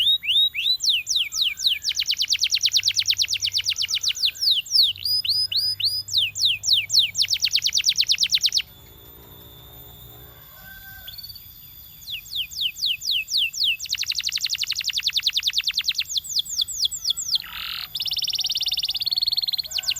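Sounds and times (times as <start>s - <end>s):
canary singing trills: 0.0s - 19.9s.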